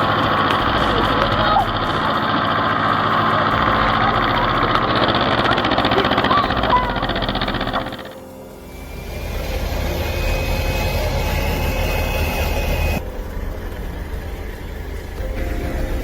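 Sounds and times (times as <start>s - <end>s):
heavy vehicle engine rumble: 0.0s - 16.0s
thin high whine: 0.0s - 16.0s.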